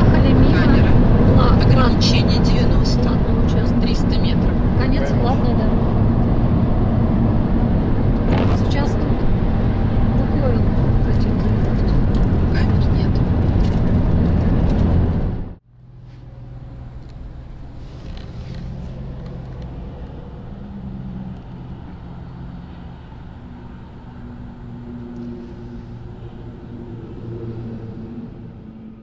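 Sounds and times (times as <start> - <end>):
car engine hum: 0.0 - 29.0
road rumble: 0.0 - 29.0.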